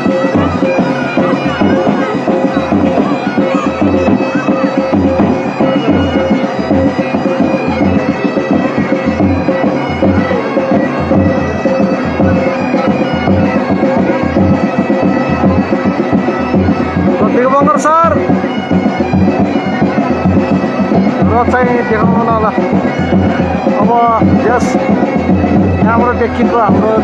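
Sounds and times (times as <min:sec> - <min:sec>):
reed wind instruments melody: 0:00.0 - 0:27.0
regular drumbeat: 0:00.0 - 0:27.0.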